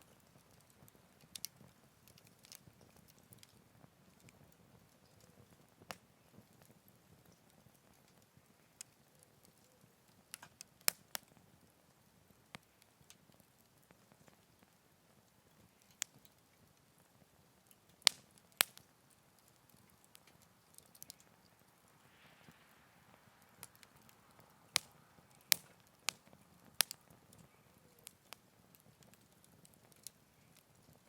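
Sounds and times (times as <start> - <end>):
campfire hissing: 0.0 - 31.0
fire popping and crackling: 0.0 - 31.0.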